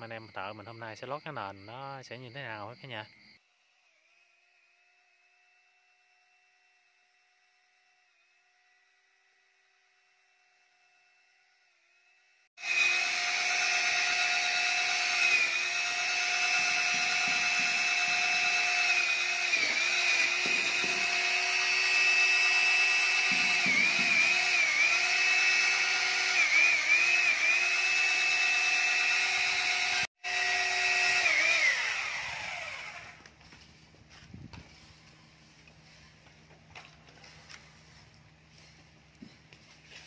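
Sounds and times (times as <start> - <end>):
power tool motor whining: 3.5 - 40.0.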